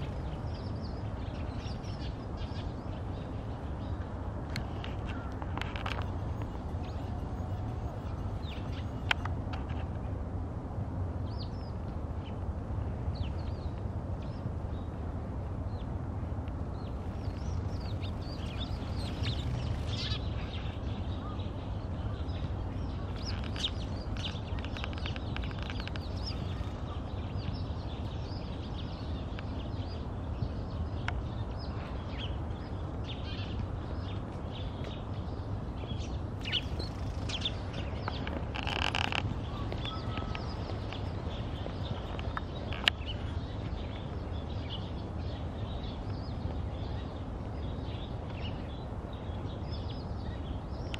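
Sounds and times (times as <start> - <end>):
sparrows chirping: 0.0 - 4.0, 4.6 - 9.8, 16.8 - 50.9
low city rumble: 0.0 - 50.9.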